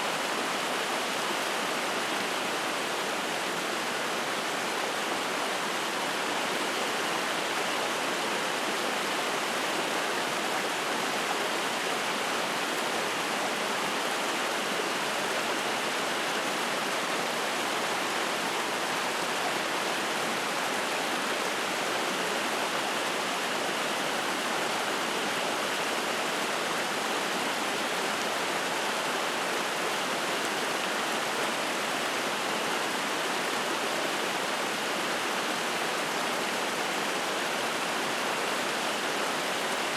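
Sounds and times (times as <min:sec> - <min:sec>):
stream rushing and splashing: 0:00.0 - 0:39.9.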